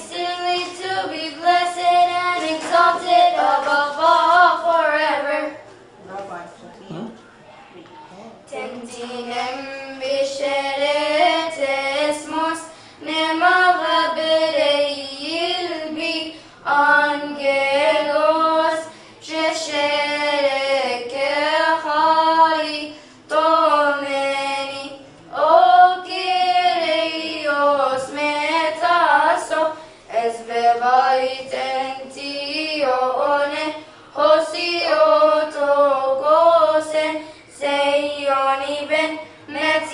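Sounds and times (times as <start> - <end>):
girls singing a hymn: 0.0 - 5.8, 8.5 - 39.9.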